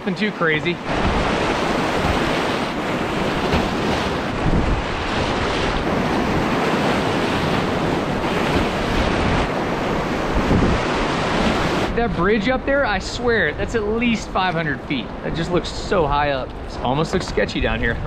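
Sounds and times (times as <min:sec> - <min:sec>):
whitewater rushing and splashing: 0:00.0 - 0:18.0.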